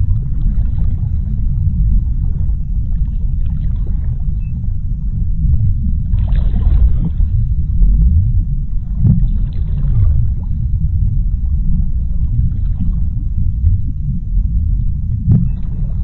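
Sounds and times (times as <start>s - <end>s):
underwater low rumble: 0.0s - 16.0s.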